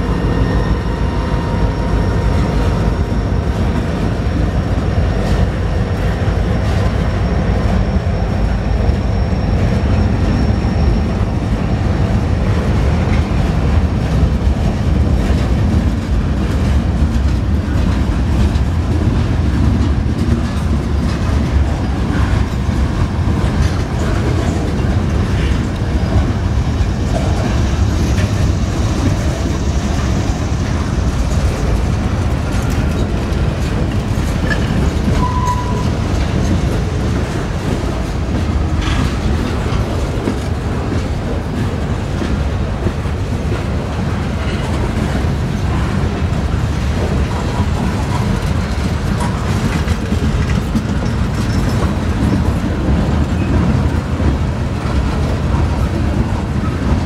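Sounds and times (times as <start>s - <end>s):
train wheels rumbling on rail: 0.0s - 57.0s
wheels clacking over rail joints: 9.6s - 57.0s.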